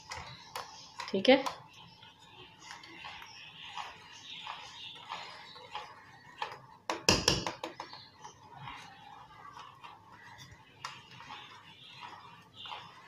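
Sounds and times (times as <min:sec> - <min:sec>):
whisk scraping a steel pan: 0:00.0 - 0:13.0.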